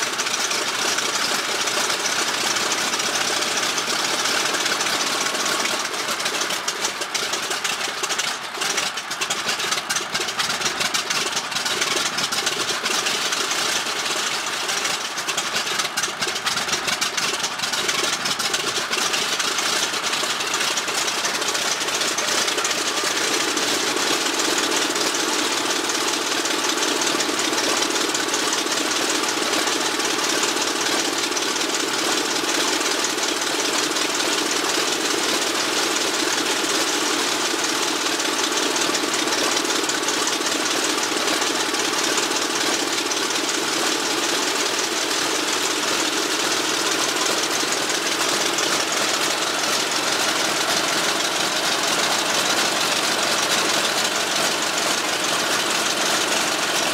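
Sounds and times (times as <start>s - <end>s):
piston engine running steadily: 0.0s - 56.9s.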